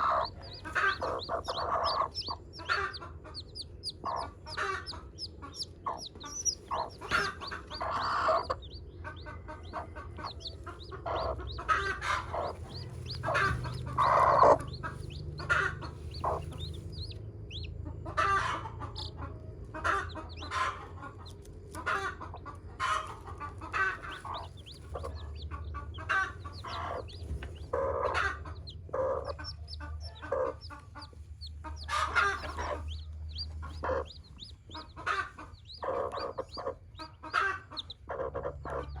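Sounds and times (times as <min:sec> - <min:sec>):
chicks peeping: 0:00.0 - 0:39.0
hen clucking: 0:00.0 - 0:39.0.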